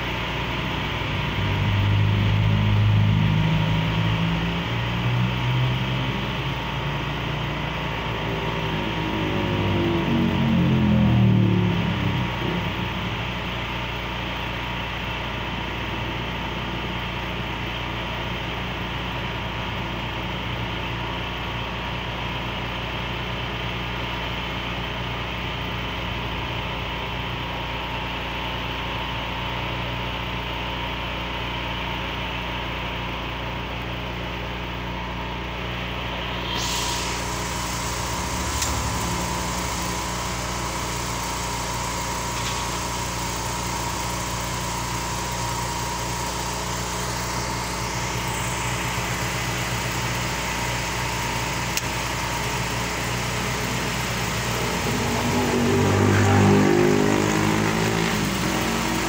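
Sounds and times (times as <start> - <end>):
small engine idling: 0.0 - 59.0.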